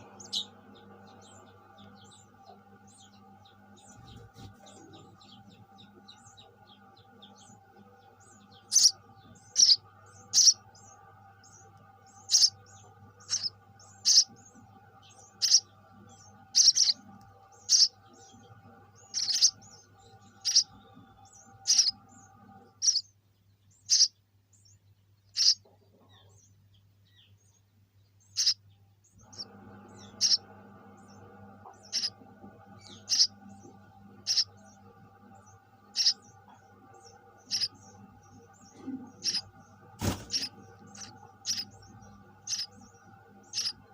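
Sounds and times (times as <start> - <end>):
sparrow chirping: 0.0 - 43.9
steady low hum: 0.0 - 43.9.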